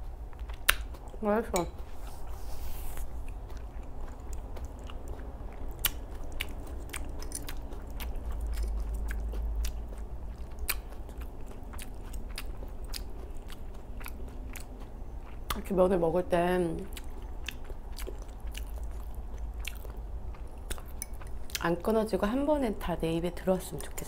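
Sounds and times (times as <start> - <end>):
wet chewing and smacking: 0.0 - 15.9, 16.8 - 21.9.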